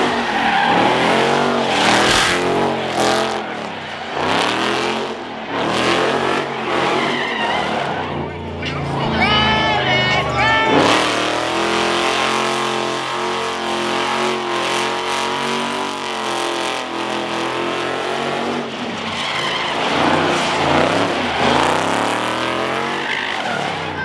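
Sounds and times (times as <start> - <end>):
car engine revving: 0.0 - 24.0
tyres skidding and squealing: 0.0 - 24.0.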